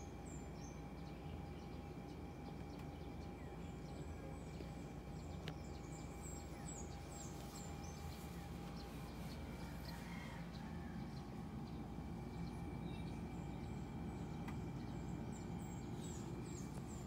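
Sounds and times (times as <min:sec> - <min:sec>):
low background hum: 0:00.0 - 0:17.0
small birds chirping: 0:00.0 - 0:17.0.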